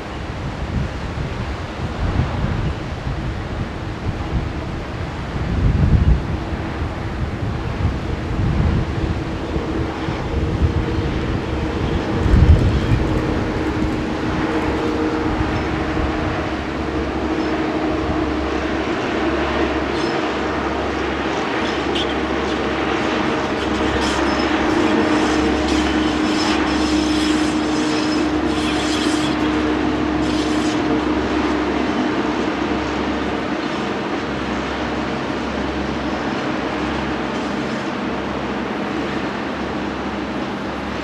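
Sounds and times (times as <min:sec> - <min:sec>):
diesel locomotive engine hum: 0:00.0 - 0:41.0.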